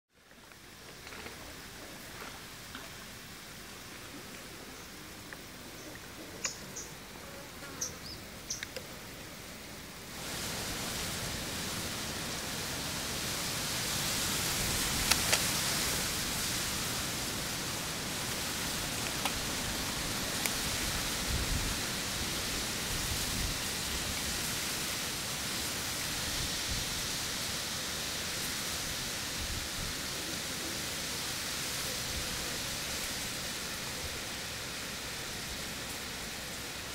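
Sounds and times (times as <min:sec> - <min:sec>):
steady loud hiss: 0:00.1 - 0:36.9.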